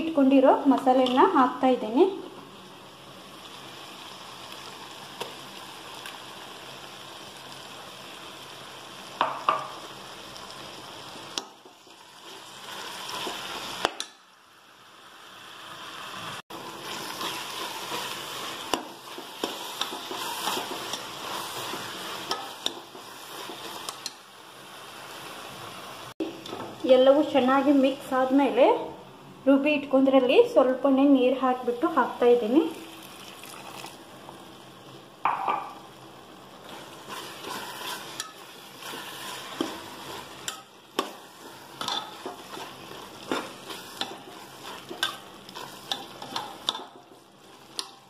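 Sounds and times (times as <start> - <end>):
food sizzling in a pot: 0.0 - 48.0.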